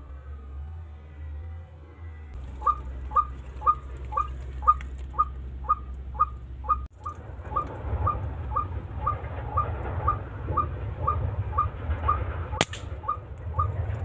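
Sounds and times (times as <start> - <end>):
bird calling: 2.4 - 14.0.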